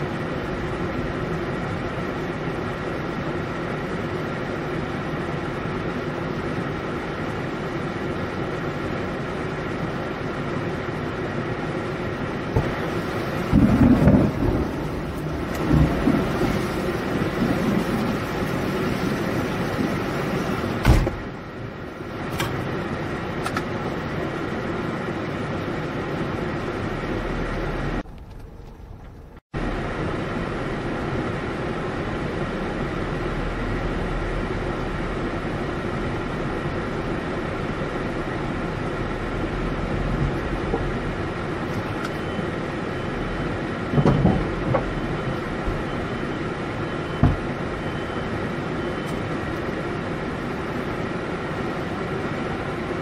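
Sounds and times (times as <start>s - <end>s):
torrential rain on a car: 0.0s - 28.0s, 29.6s - 53.0s.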